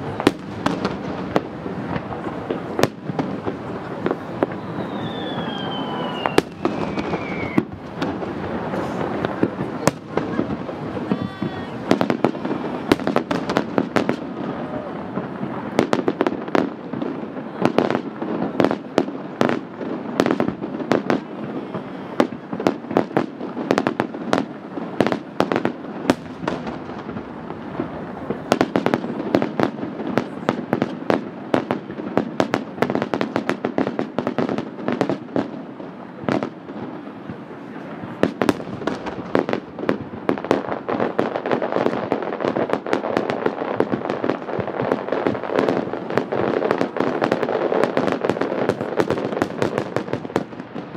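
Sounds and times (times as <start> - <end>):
fireworks bursting with sharp bangs: 0.0 - 50.9.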